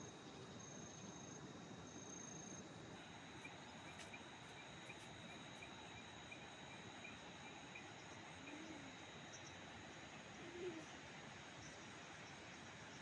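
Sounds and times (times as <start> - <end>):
high-pitched insect trill: 0.0 - 10.9
low steady hiss: 0.0 - 13.0.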